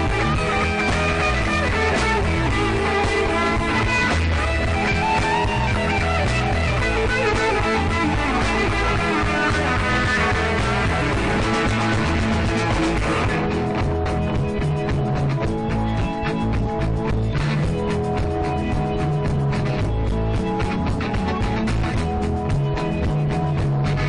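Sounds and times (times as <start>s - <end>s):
guitar: 0.0s - 24.0s
rock band playing: 0.0s - 24.0s.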